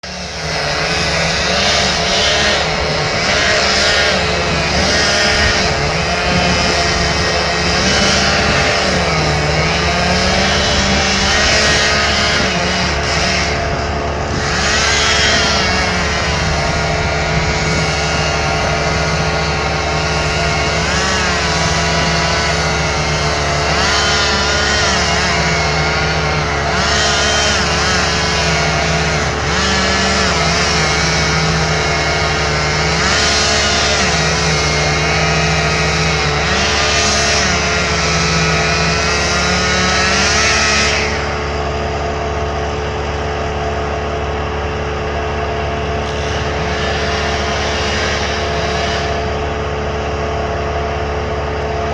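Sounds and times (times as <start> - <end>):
chainsaws revving: 0.0 - 51.9.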